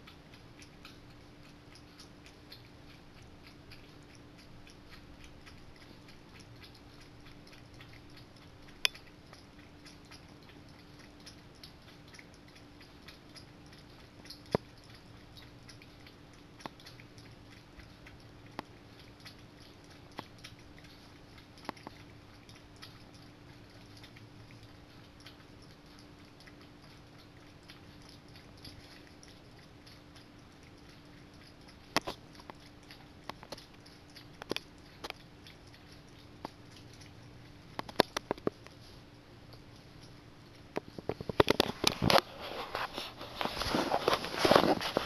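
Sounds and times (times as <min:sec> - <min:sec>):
cat crunching food: 0:00.0 - 0:45.0.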